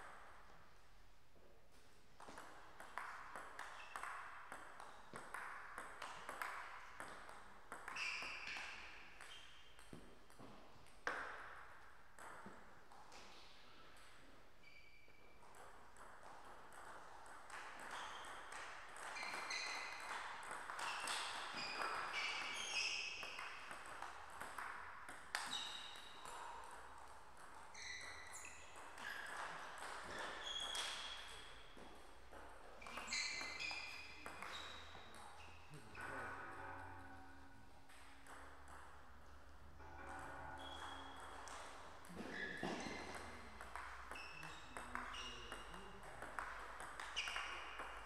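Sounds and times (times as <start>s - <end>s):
table tennis ball pings: 2.2s - 48.0s.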